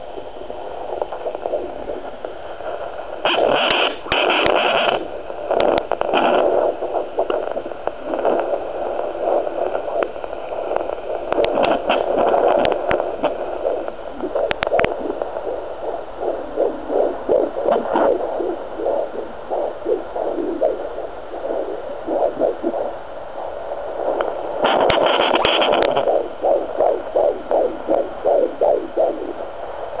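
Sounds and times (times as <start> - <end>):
fetal heartbeat whooshing pulses: 0.0 - 30.0
rustling noise: 0.8 - 23.0, 23.9 - 29.4.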